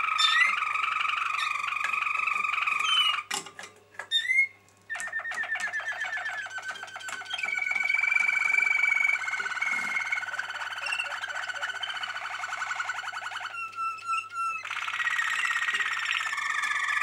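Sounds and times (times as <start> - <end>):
bird chips and rising whistles: 0.0 - 3.2, 4.2 - 17.0
canaries singing trills: 0.0 - 3.4, 4.0 - 17.0.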